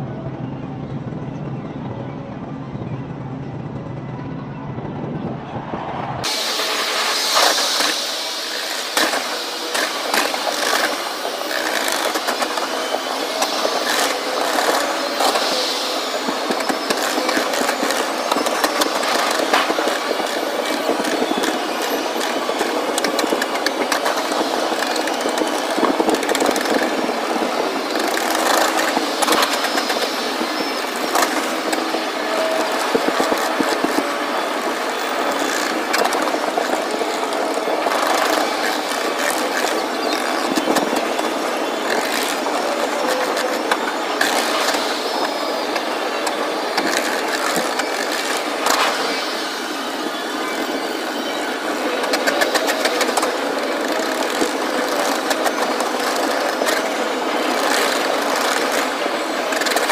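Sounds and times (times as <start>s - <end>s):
steady background din: 0.0s - 59.9s.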